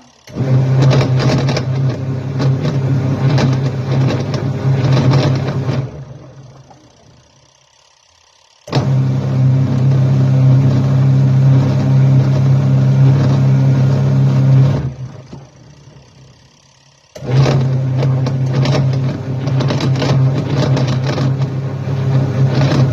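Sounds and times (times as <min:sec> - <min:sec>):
washing machine motor hum: 0:00.0 - 0:22.9.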